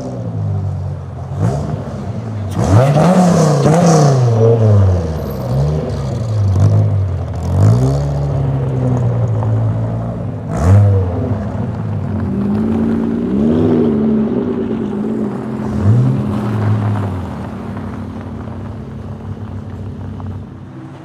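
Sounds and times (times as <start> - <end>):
sports car engine revving: 0.0 - 20.2.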